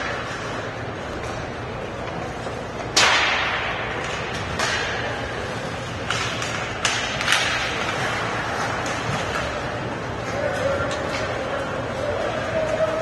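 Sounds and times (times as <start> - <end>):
hockey sticks and puck cracking: 0.0 - 13.0.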